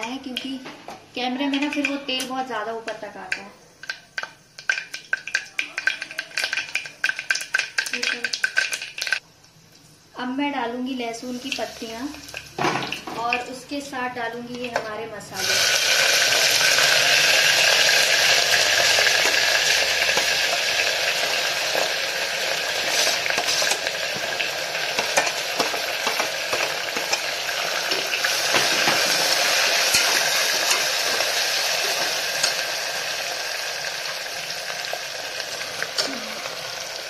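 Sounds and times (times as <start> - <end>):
hot oil sizzling: 1.2 - 37.0.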